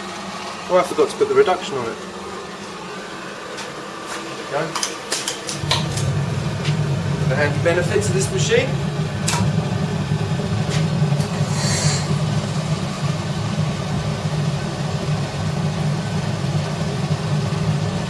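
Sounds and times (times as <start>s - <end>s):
gas furnace burner rumbling: 0.0s - 18.0s.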